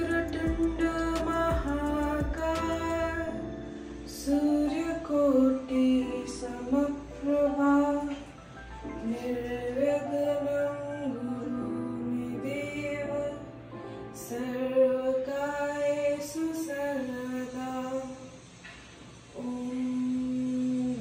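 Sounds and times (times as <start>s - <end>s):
person singing slow song: 0.0s - 21.0s.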